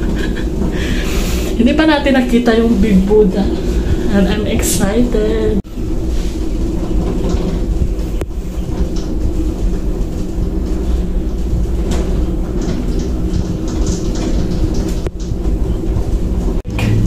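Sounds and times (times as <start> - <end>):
gondola cabin rumble and hum: 0.0 - 17.0.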